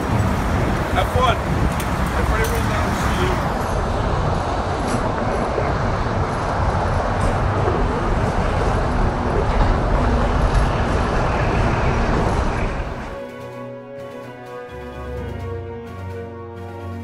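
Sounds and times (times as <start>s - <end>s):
steady traffic noise: 0.0s - 17.0s.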